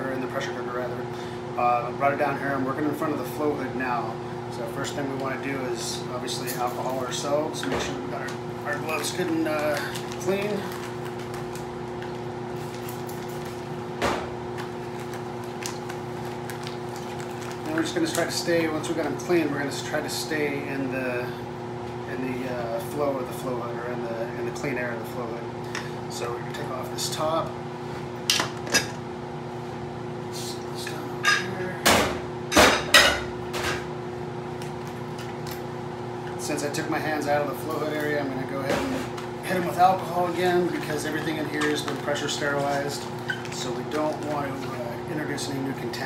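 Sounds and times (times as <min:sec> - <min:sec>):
blower humming: 0:00.0 - 0:46.0.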